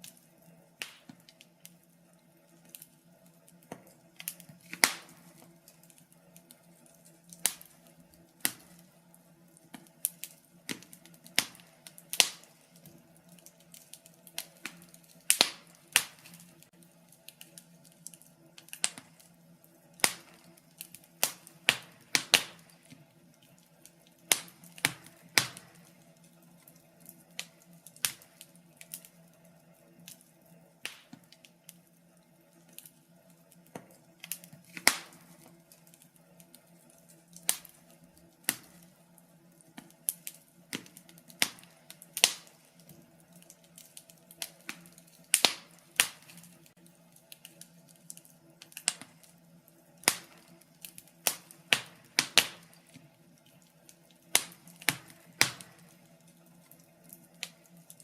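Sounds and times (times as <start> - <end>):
faint steady hum: 0.0 - 58.0
wood fire crackling and popping: 0.0 - 58.0.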